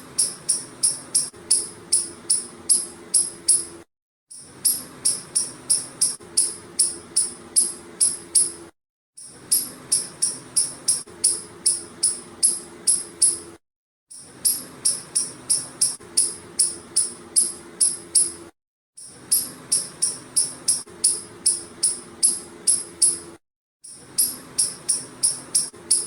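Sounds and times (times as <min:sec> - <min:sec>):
squirrel chirping: 0:00.1 - 0:03.7, 0:04.6 - 0:08.5, 0:09.5 - 0:13.4, 0:14.4 - 0:18.3, 0:19.3 - 0:23.2, 0:24.2 - 0:26.0.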